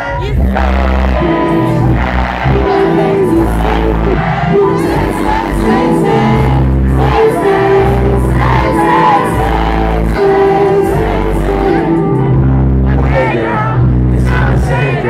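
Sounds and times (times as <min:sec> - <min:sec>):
deep bass notes: 0:00.0 - 0:15.0
person singing: 0:00.0 - 0:15.0.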